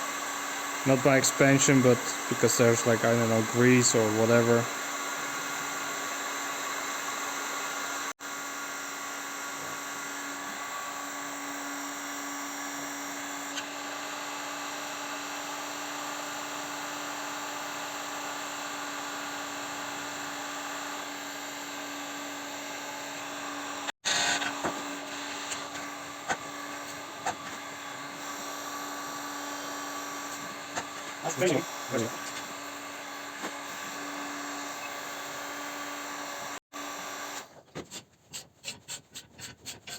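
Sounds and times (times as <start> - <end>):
heating tool whine and hiss: 0.0 - 37.5.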